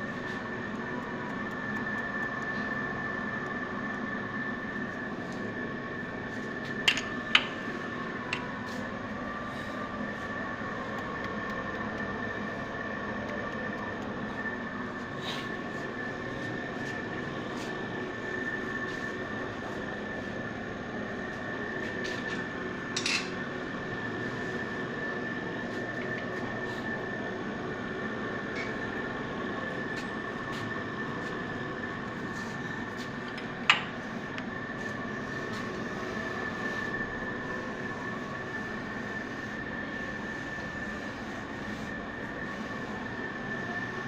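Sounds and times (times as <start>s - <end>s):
mechanical hum with high whine: 0.0s - 44.0s.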